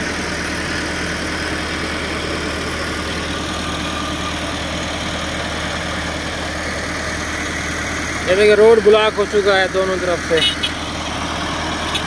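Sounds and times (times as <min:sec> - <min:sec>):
tractor diesel engines idling: 0:00.0 - 0:12.0.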